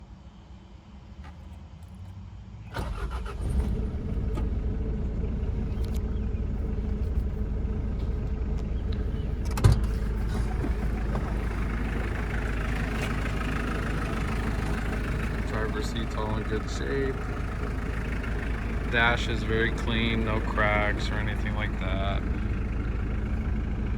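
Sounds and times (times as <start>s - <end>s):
diesel engine cranking: 1.2s - 23.9s
diesel engine idling: 2.4s - 23.9s.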